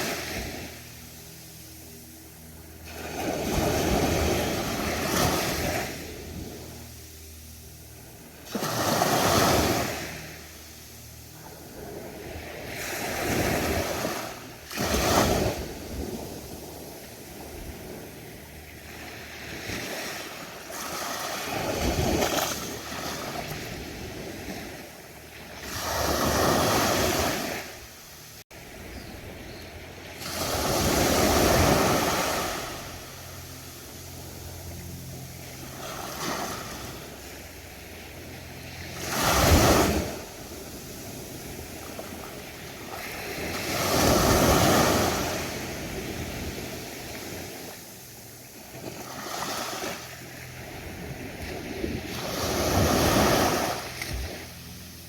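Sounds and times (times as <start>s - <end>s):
ocean waves breaking on beach: 0.0s - 1.7s, 2.5s - 55.0s.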